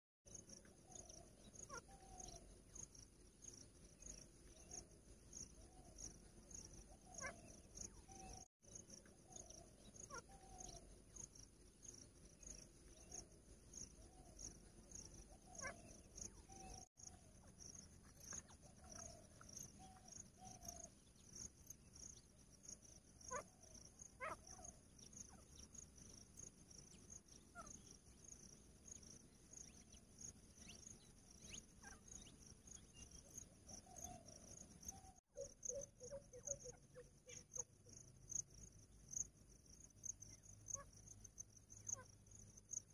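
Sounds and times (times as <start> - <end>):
cricket chirping: 0.3 - 42.9.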